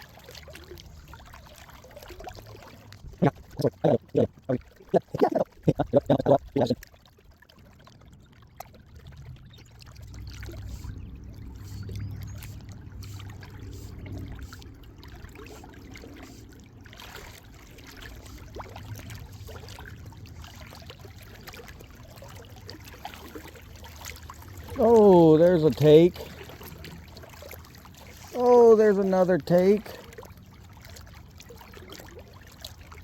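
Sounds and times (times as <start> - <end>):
water lapping and trickling: 0.0 - 33.0.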